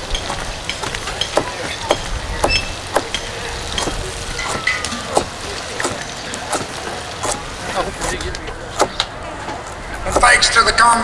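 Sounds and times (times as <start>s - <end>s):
peppers snapping and crackling: 0.0s - 10.4s.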